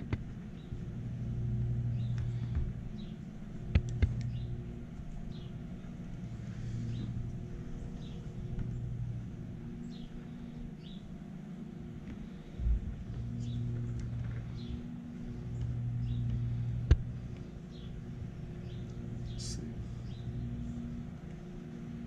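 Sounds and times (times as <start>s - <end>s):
low hum: 0.0s - 22.0s
small birds chirping: 0.0s - 22.0s.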